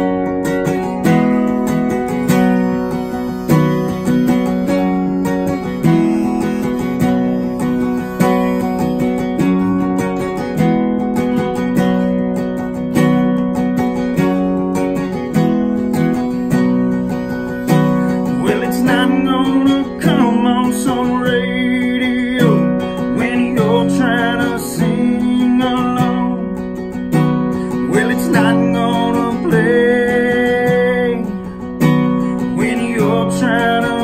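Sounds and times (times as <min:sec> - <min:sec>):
harmonica melody: 0:00.0 - 0:34.0
strummed acoustic guitars: 0:00.0 - 0:34.0.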